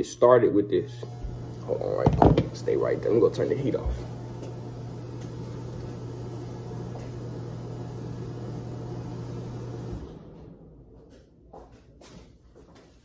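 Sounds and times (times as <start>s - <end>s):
heater blower hum: 0.0s - 12.2s.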